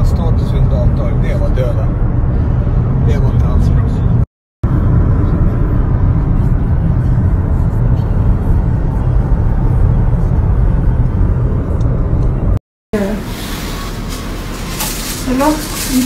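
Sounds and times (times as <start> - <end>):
road and wind rumble in car: 0.0 - 16.0.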